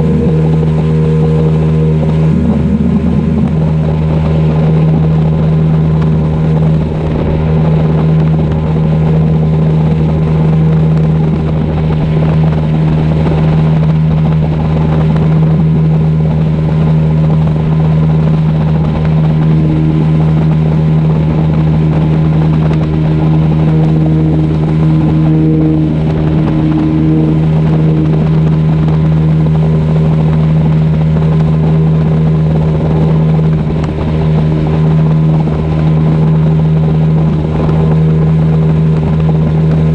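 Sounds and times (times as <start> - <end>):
outboard motor droning: 0.0 - 39.9
water rushing: 0.0 - 39.9.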